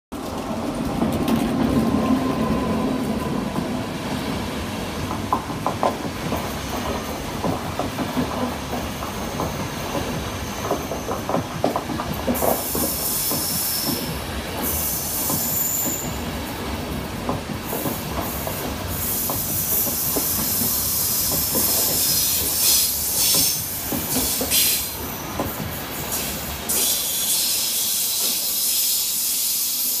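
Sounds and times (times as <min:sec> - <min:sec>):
train wheels rumbling and clicking: 0:00.1 - 0:29.6.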